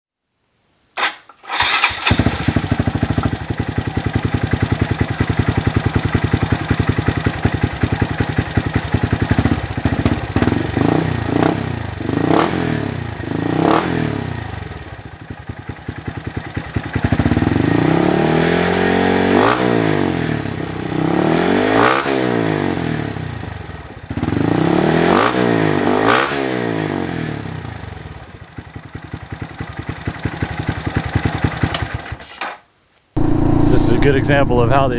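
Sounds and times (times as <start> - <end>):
motorcycle engine revving and idling: 1.5 - 32.3.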